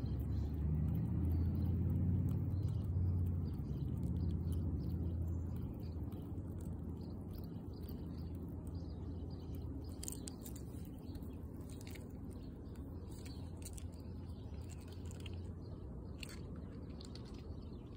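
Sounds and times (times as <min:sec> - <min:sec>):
low background rumble: 0:00.0 - 0:17.9
squirrel clicks and scratches: 0:00.0 - 0:17.9.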